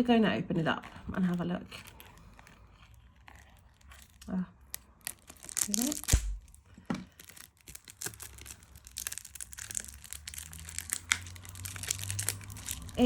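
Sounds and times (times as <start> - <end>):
plastic wrapping crinkling and tearing: 0.5 - 13.0.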